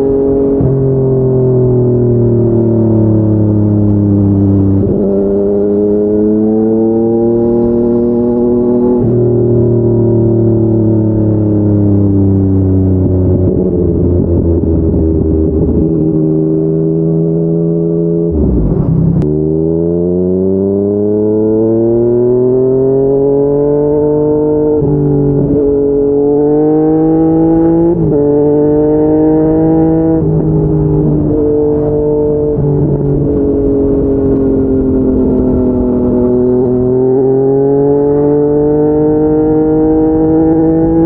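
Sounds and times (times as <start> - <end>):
motorcycle engine revving and shifting: 0.0 - 41.0.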